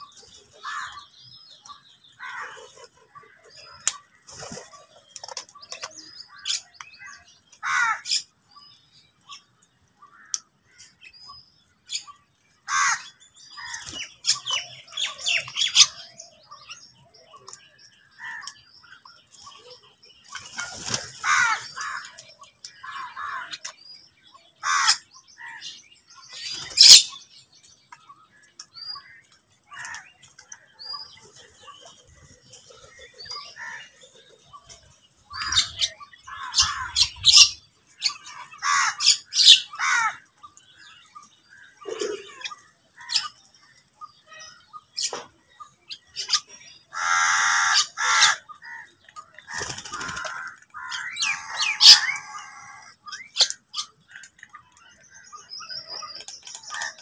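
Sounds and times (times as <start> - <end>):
crows and mynas calling: 0.0 - 57.0.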